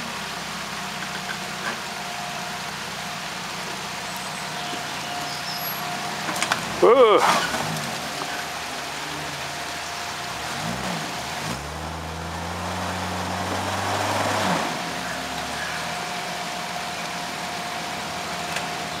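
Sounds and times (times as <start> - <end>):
car engine revving: 3.4 - 19.0.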